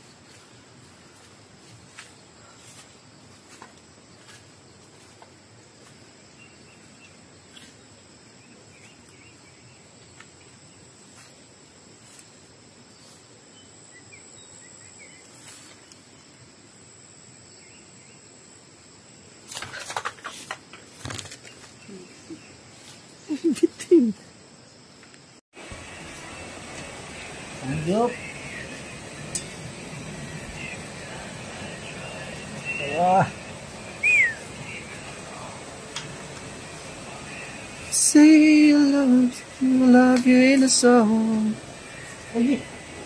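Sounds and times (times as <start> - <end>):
faint outdoor hush: 0.0 - 43.0
insects trilling: 0.0 - 43.0.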